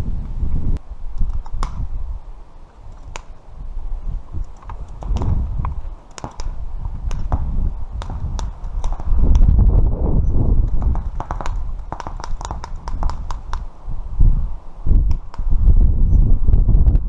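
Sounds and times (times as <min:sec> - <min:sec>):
low microphone rumble: 0:00.0 - 0:02.5, 0:03.5 - 0:11.8, 0:13.8 - 0:17.0.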